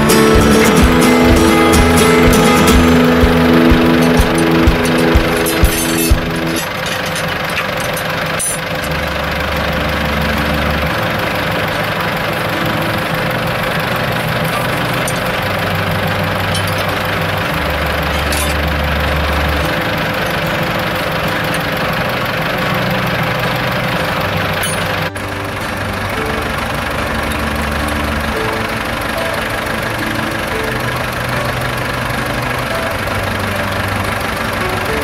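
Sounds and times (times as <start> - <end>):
low steady notes: 0.0 - 35.0
tractor engine running: 0.0 - 35.0.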